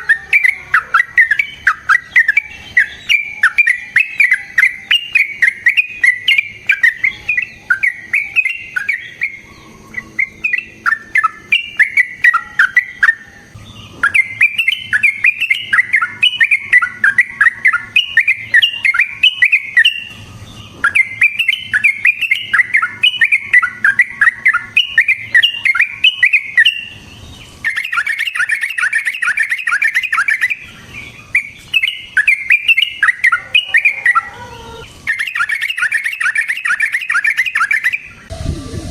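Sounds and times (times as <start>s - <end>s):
bulbul singing bubbly chattering: 0.0s - 38.9s.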